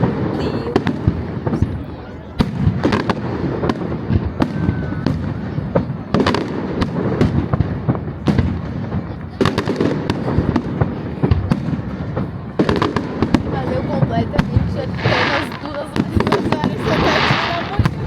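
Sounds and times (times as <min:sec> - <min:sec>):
fireworks bangs and crackles: 0:00.0 - 0:18.0
rumble of distant fireworks bursts: 0:00.0 - 0:18.0.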